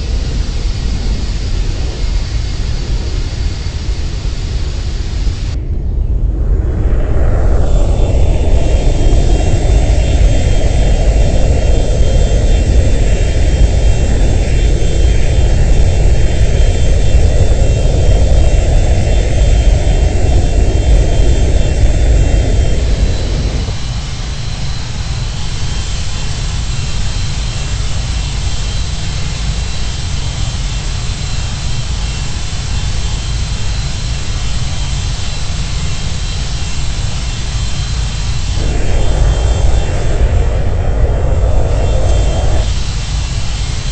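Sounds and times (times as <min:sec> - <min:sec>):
jet engines roaring: 0:00.0 - 0:43.9.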